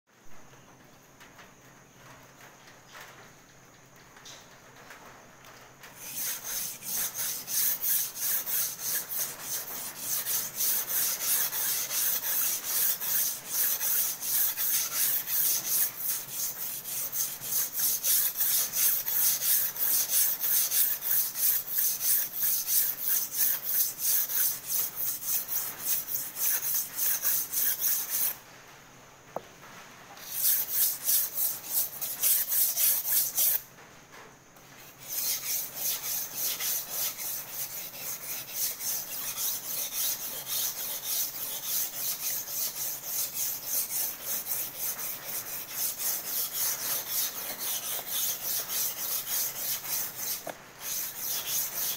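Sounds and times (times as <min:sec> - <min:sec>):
knife scraping on whetstone: 0:06.0 - 0:28.4, 0:30.2 - 0:33.6, 0:34.8 - 0:51.9.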